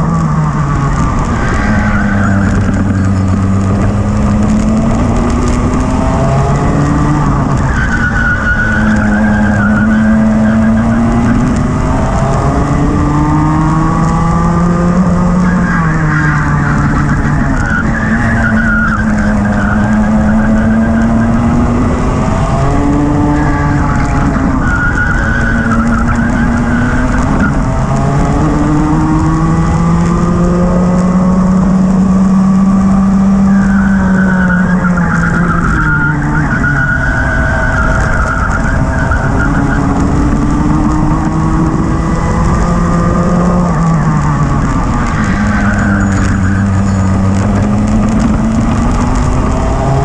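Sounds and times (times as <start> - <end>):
racing kart engine: 0.0 - 50.0.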